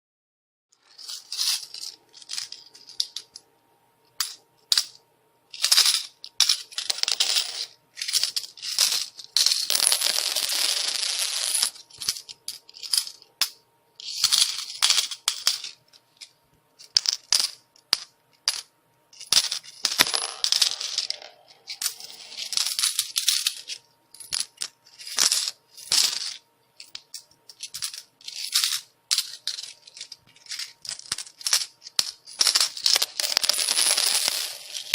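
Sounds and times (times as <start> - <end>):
metal coins clattering: 0.8 - 3.4, 4.2 - 34.9.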